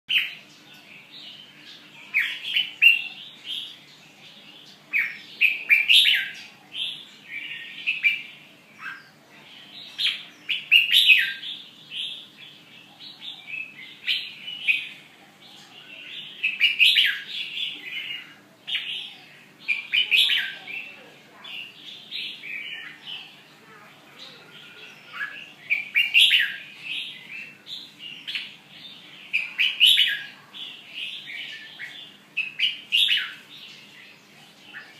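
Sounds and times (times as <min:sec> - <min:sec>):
bird chirping: 0:00.1 - 0:34.9.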